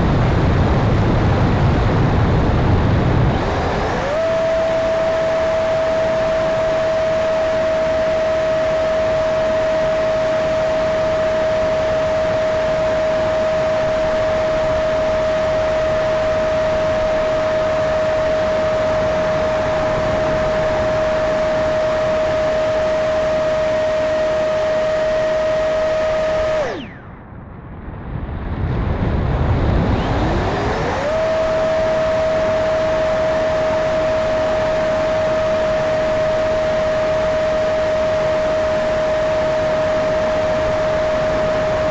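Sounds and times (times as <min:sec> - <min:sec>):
electric ducted fan whine: 0:00.0 - 0:41.9.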